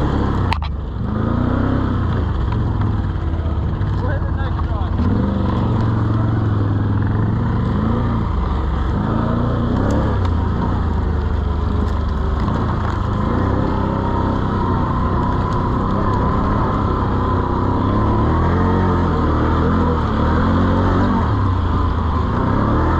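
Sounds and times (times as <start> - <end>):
quad engine revving: 0.0 - 22.9.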